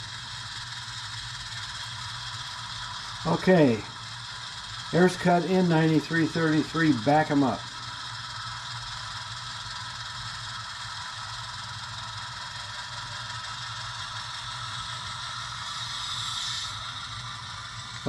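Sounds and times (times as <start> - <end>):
model locomotive motor running: 0.0 - 18.0.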